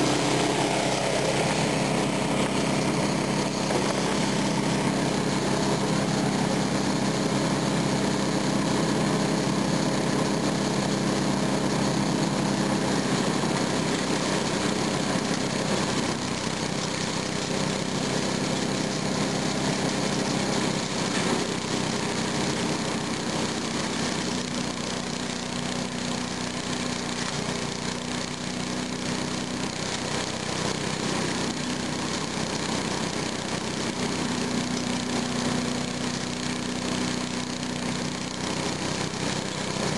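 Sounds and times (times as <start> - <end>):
brush fed into shredder: 0.0 - 39.9
shredder engine running: 0.0 - 39.9.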